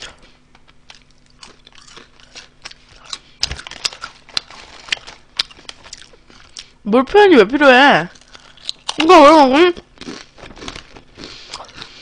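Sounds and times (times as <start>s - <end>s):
potato chips crunching: 0.8s - 6.7s, 8.1s - 12.0s.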